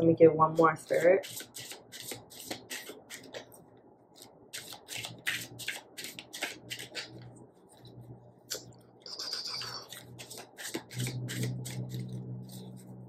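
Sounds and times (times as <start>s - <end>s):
cards being shuffled by hand: 0.9s - 3.6s, 4.2s - 13.0s.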